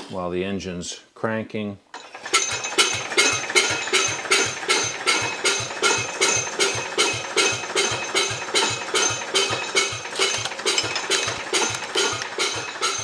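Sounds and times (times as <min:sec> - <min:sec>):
engine cranking without firing: 0:01.9 - 0:13.0.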